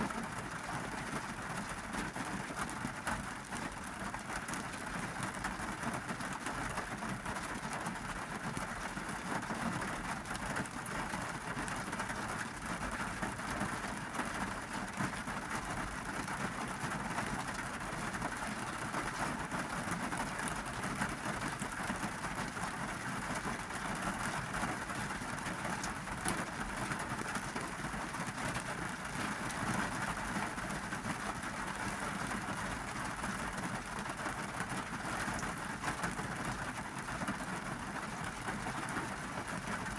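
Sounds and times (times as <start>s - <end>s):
rain pattering on car roof: 0.0s - 39.9s.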